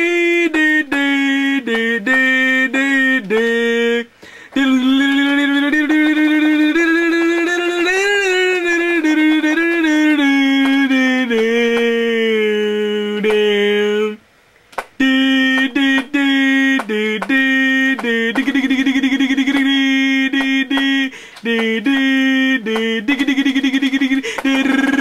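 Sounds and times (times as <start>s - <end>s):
man singing a long tone: 0.0s - 14.3s, 15.0s - 25.0s.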